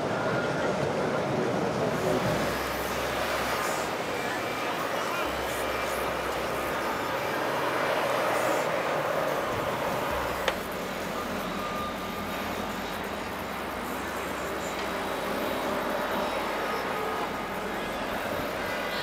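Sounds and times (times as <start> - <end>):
boat engines running: 0.0 - 19.0.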